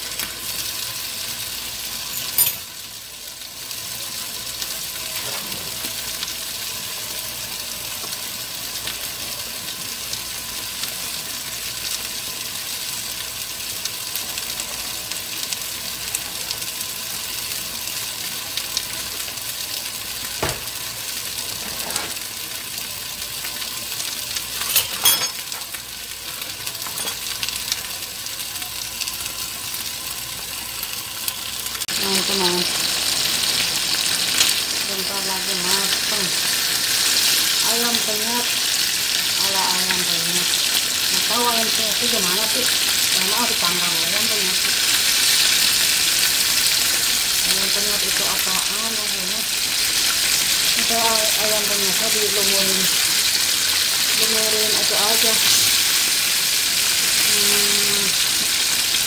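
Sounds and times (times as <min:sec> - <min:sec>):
stew boiling and sizzling: 0:00.0 - 0:59.0.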